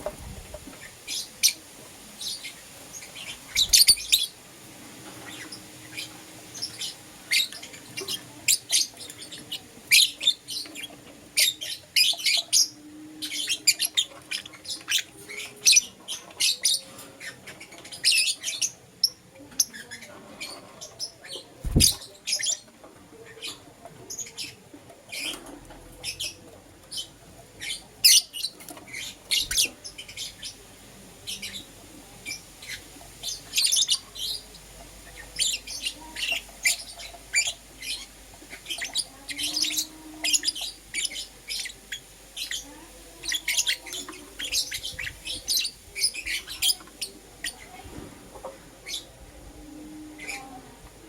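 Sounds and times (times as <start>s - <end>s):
birds chirping and squawking: 2.2s - 4.4s, 5.0s - 30.6s, 31.2s - 47.8s, 48.4s - 49.2s.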